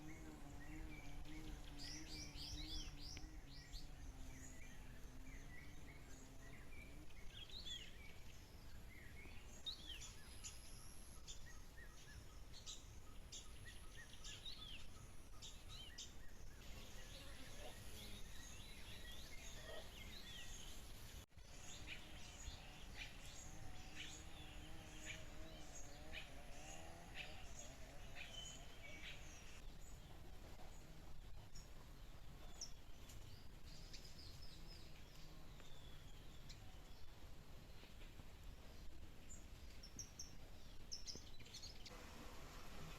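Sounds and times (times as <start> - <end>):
faint steady background noise: 0.0 - 42.9
songbirds chirping and trilling: 0.0 - 42.9.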